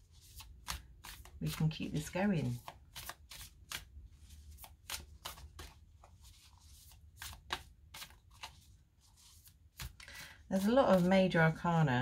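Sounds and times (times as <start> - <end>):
cards being shuffled: 0.0 - 11.1.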